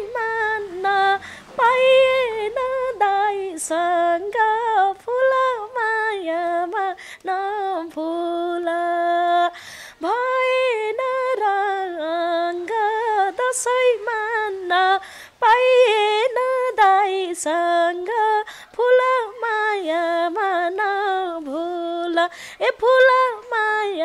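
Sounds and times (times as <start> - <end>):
woman singing unaccompanied: 0.0 - 24.0.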